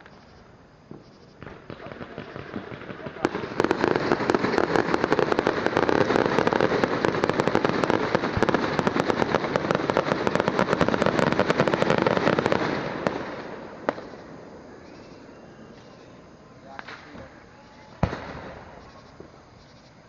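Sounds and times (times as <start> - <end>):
fireworks crackling pops: 0.0 - 20.0.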